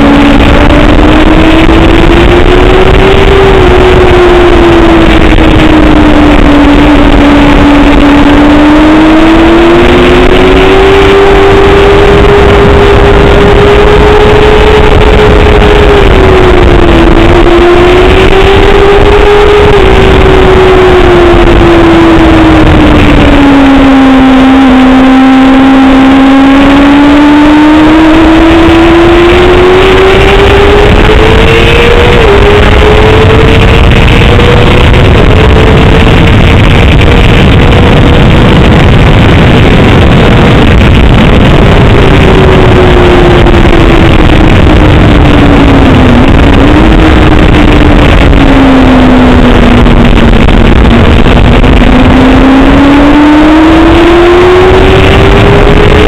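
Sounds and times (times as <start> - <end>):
motorcycle engine revving: 0.0 - 56.0
wind noise roaring: 0.0 - 56.0.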